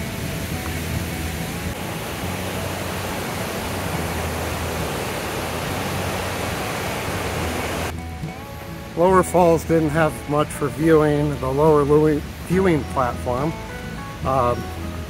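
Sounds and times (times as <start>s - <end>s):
river rushing over falls: 0.0s - 15.0s.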